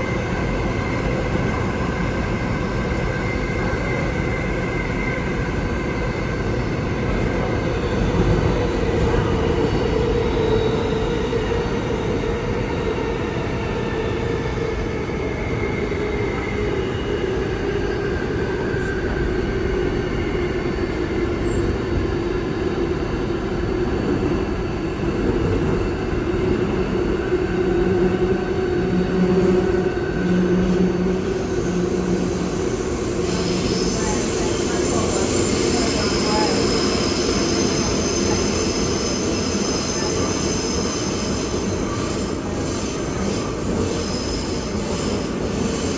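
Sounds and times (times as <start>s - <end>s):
train wheels rumbling on rail: 0.0s - 45.9s
train whine: 0.0s - 45.9s.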